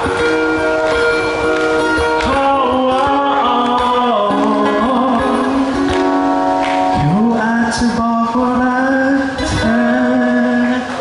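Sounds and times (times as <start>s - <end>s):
ukulele strumming: 0.0s - 11.0s
man singing into a microphone: 2.0s - 11.0s.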